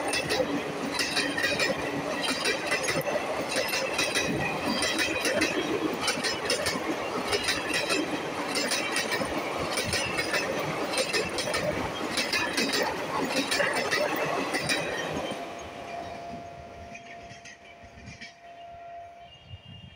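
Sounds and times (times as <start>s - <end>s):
train wheels clacking over rail joints: 0.0s - 18.6s
train rumble: 0.0s - 19.9s.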